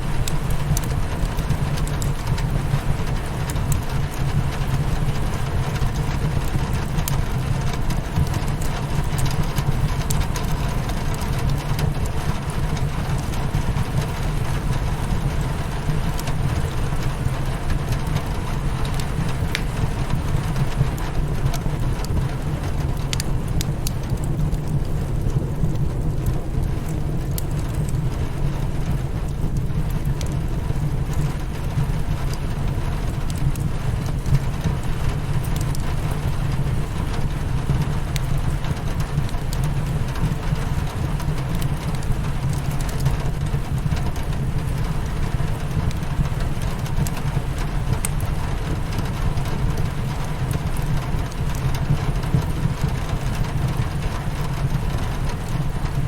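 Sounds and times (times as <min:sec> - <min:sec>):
crackling fire: 0:00.0 - 0:56.0
rain on a window pane: 0:00.0 - 0:56.0.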